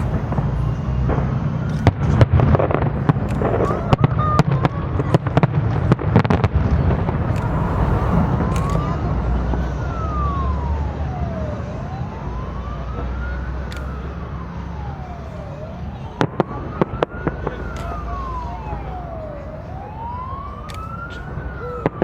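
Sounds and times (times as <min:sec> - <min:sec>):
low outdoor rumble: 0:00.0 - 0:20.0
emergency siren wailing: 0:00.0 - 0:22.0.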